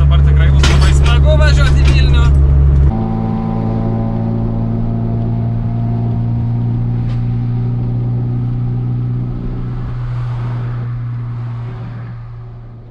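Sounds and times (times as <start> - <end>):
car engine droning: 0.0 - 12.9
road and wind noise: 0.0 - 12.9.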